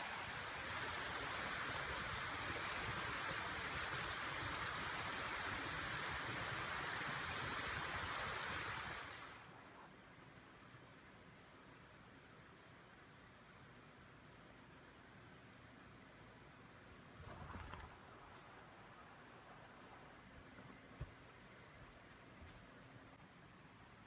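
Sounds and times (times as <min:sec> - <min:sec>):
rushing outdoor ambience hiss: 0:00.0 - 0:24.0.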